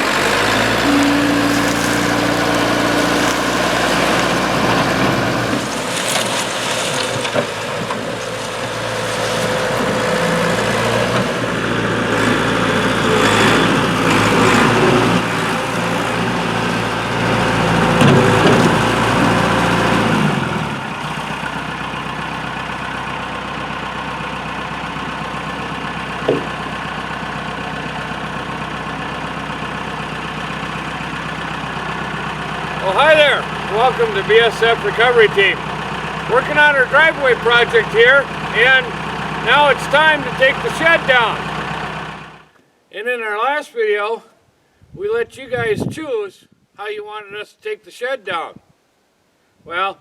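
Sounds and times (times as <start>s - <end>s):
vehicle engine running: 0.0s - 42.6s.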